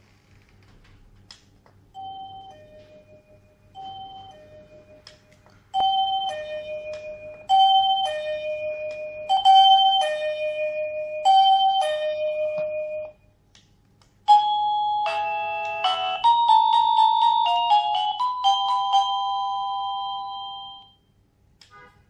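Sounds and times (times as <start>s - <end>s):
electronic doorbell chime melody: 2.0s - 13.2s, 14.3s - 21.1s.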